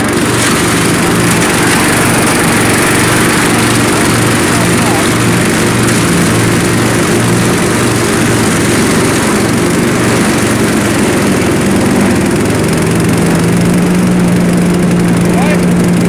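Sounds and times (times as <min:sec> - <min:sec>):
mower vacuuming leaves hiss: 0:00.0 - 0:16.0
riding mower engine hum: 0:00.0 - 0:16.0.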